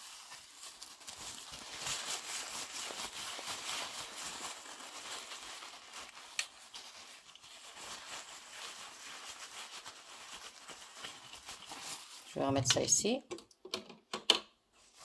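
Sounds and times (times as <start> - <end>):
paper towel rustling: 0.0 - 12.6.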